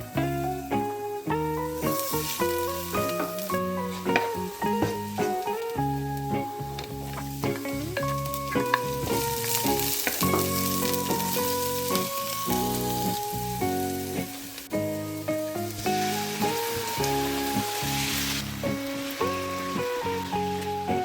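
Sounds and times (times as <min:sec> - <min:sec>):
food sizzling in pan: 0:00.0 - 0:21.0
instrumental background music: 0:00.0 - 0:21.0.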